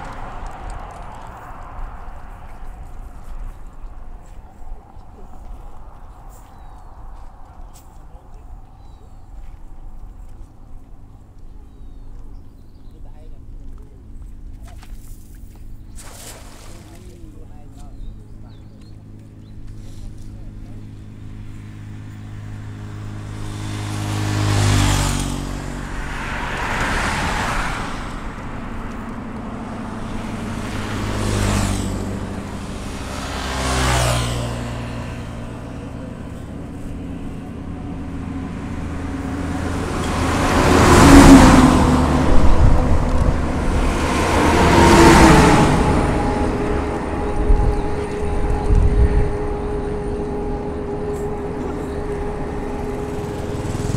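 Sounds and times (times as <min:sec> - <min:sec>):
vehicles passing by: 0:00.0 - 0:53.9.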